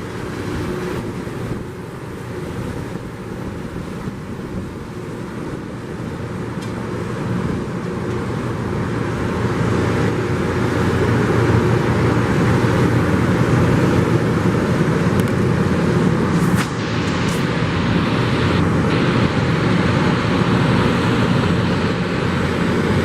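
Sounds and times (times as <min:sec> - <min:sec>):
diesel engines rumbling: 0:00.0 - 0:23.0.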